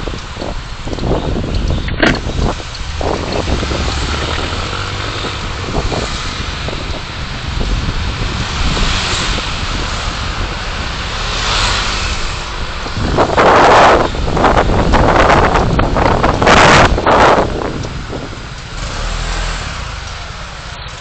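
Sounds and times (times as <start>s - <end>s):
car road noise: 0.0s - 21.0s.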